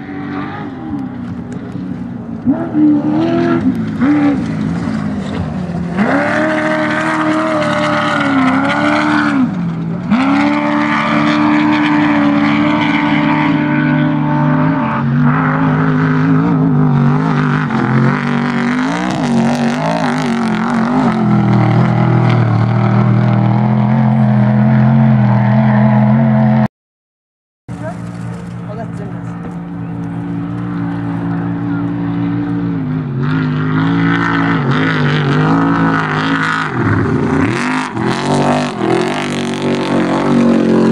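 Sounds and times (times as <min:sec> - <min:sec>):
race engines revving: 0:00.0 - 0:26.7, 0:27.7 - 0:40.9.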